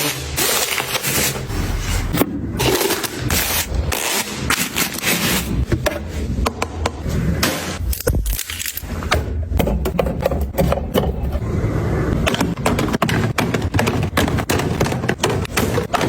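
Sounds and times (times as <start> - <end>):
items scraping and rubbing: 0.0 - 16.0.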